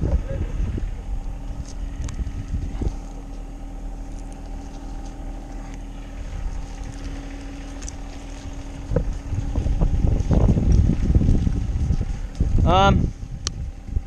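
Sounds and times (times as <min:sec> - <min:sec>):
low engine hum: 0:00.0 - 0:14.0
wind rumbling on microphone: 0:00.0 - 0:14.0.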